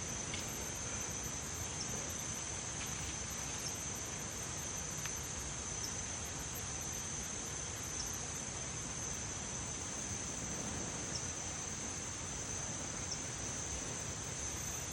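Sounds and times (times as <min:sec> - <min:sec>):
background hiss: 0:00.0 - 0:14.9.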